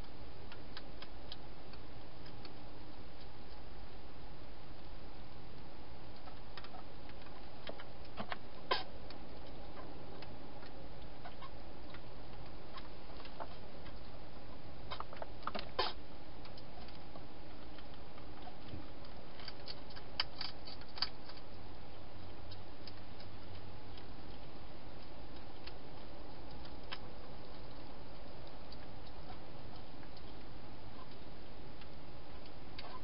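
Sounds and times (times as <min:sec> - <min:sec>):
steady background hiss: 0:00.0 - 0:33.0
hedgehog eating clicks and crunches: 0:05.6 - 0:33.0.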